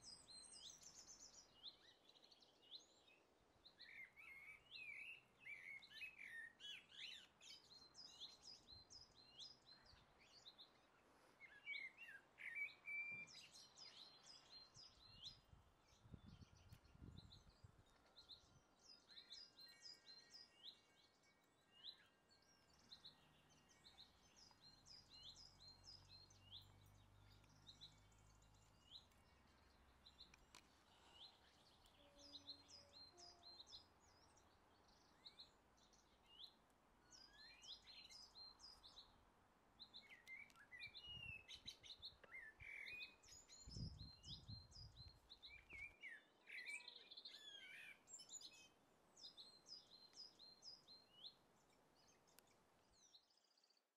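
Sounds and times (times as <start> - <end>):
faint small birds chirping: 0.0 - 53.9.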